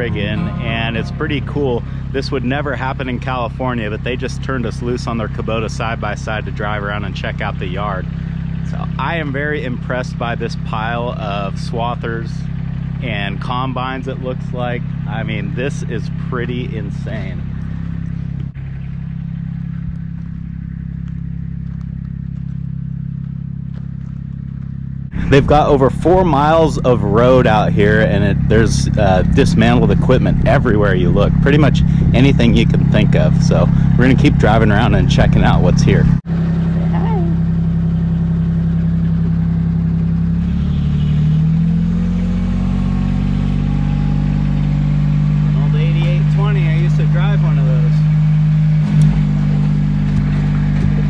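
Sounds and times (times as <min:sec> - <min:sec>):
utility vehicle engine running: 0:00.0 - 0:51.0.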